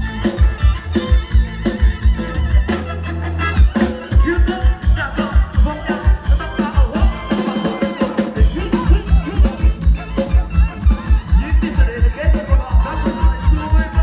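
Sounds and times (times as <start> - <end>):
band playing instrumental melody: 0.0 - 14.0
steady kick drum beat: 0.0 - 14.0.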